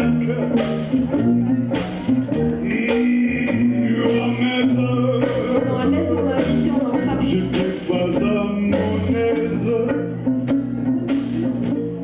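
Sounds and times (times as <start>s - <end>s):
person singing: 0.0s - 11.7s
banjo strumming: 0.0s - 12.0s
sousaphone bass notes: 0.0s - 12.0s.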